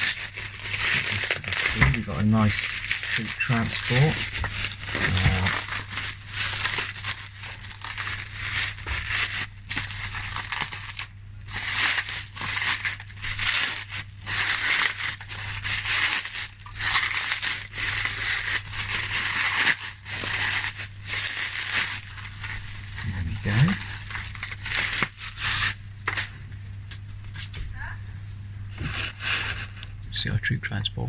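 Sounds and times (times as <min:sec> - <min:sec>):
packaging crinkling and rustling: 0:00.0 - 0:27.9
steady low hum: 0:00.0 - 0:31.0.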